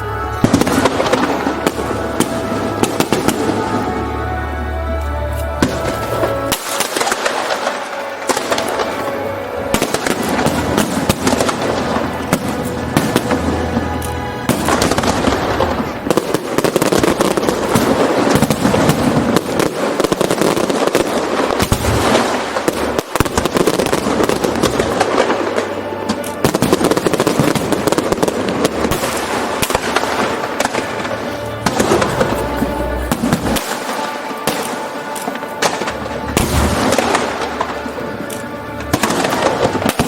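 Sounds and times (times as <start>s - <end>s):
fireworks crackling and popping: 0.0s - 40.0s
show music: 0.0s - 40.0s.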